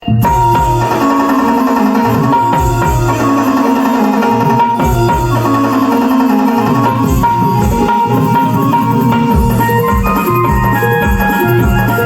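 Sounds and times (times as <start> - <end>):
held melodic line: 0.0 - 12.0
hand drum strokes: 0.2 - 12.0.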